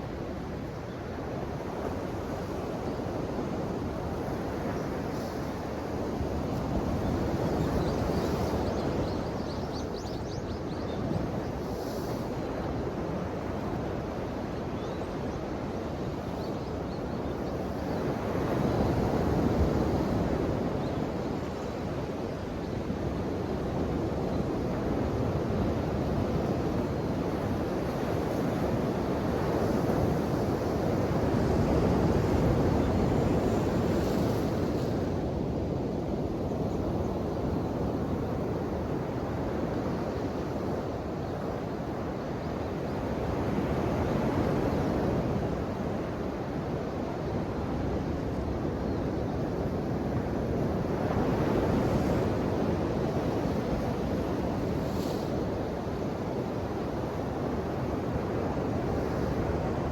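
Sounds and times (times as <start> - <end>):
ocean waves washing ashore: 0.0 - 59.9.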